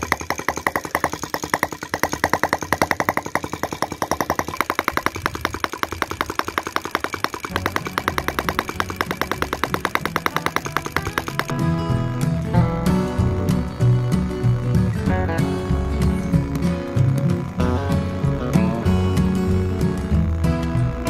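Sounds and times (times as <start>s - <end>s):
low steady sound: 0.0s - 21.0s
small petrol engine exhaust pops: 0.0s - 21.0s.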